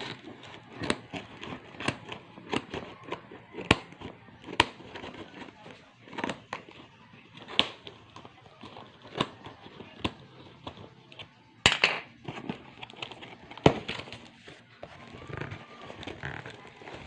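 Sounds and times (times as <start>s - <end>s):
hard objects clicking and knocking: 0.0s - 17.0s.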